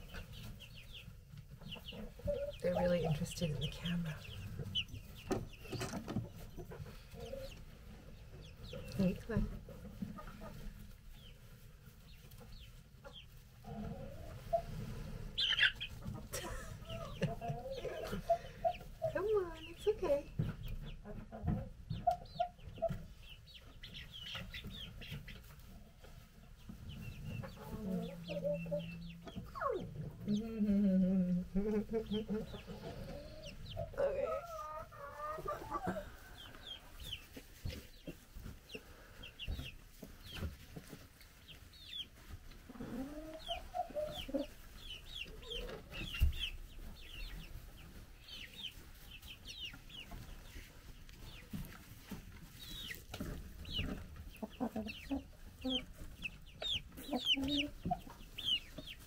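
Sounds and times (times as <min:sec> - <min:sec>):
chickens clucking and trilling: 0:00.0 - 0:59.0
chicks peeping: 0:00.0 - 0:59.0.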